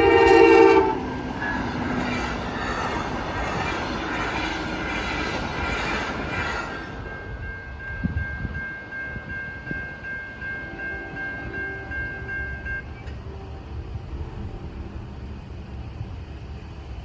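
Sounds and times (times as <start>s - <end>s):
crossing warning bell ringing: 0.0s - 14.6s
passing train rumble: 0.0s - 17.0s.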